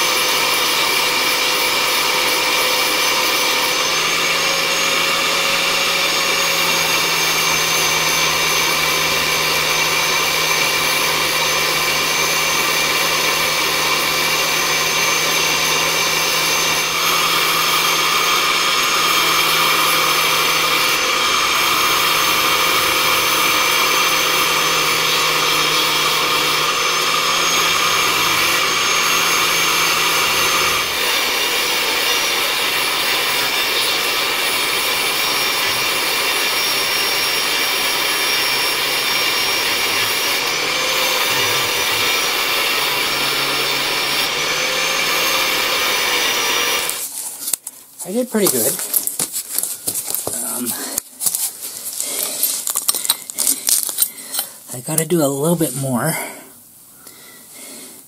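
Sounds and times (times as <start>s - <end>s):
electric motor whining: 0.0s - 56.0s.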